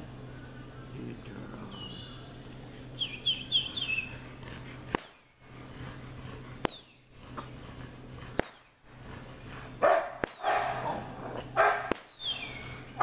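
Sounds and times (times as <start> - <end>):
low steady background: 0.0 - 13.0.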